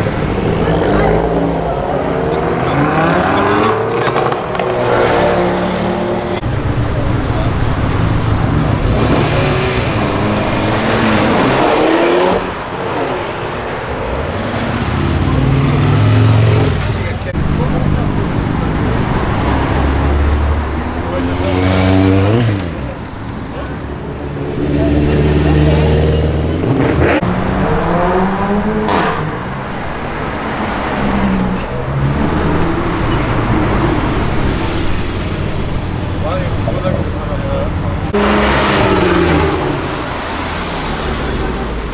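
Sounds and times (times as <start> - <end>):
car accelerating: 0.0 - 41.9
traffic noise: 0.0 - 41.9.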